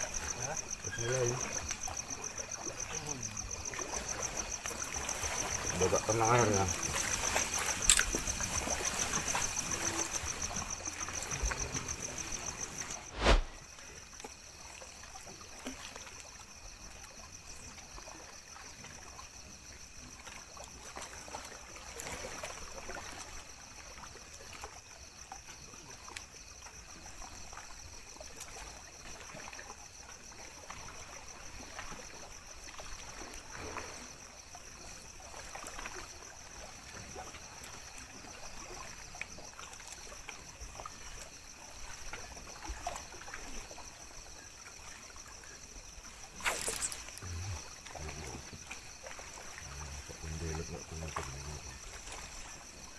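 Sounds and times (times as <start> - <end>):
waves lapping against shore: 0.0 - 52.9.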